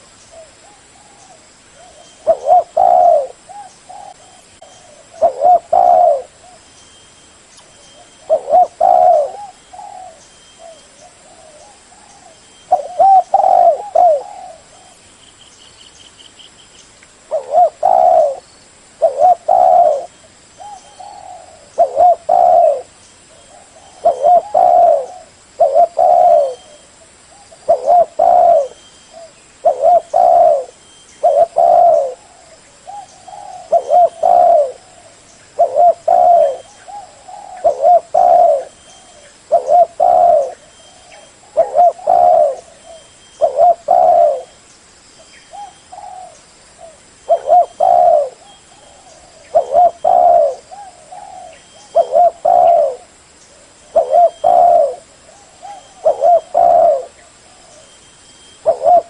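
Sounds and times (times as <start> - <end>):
dove cooing: 0.0 - 6.6, 7.9 - 15.0, 17.2 - 18.4, 19.0 - 44.6, 45.5 - 58.0, 58.6 - 59.0
faint high bird chirps: 0.2 - 18.4, 19.0 - 32.2, 32.9 - 46.5, 47.2 - 59.0.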